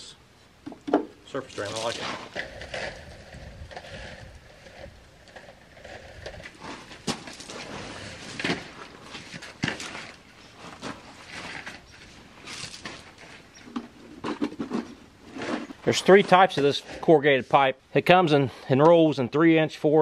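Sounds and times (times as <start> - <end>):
plastic pipe being handled: 0.6 - 17.1.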